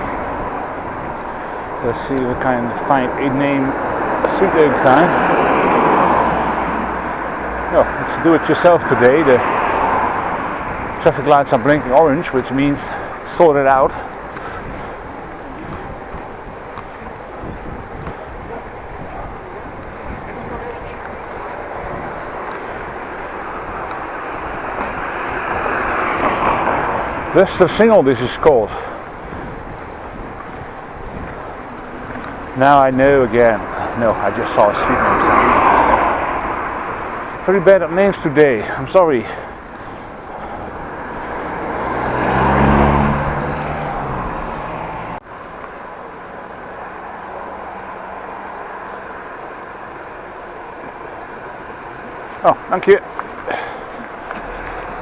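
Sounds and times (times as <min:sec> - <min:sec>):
vehicle engine passing by: 0:00.0 - 0:14.1, 0:19.6 - 0:45.2, 0:46.6 - 0:55.0
bicycle tyre noise: 0:00.0 - 0:45.8
wind and road noise: 0:00.0 - 0:55.0.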